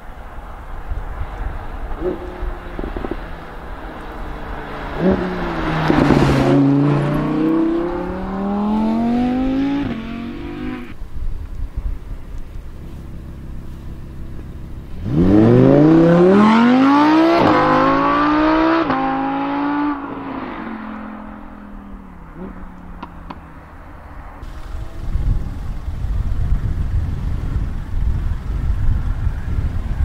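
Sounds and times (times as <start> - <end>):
car engine accelerating: 1.4 - 11.0, 12.7 - 30.0.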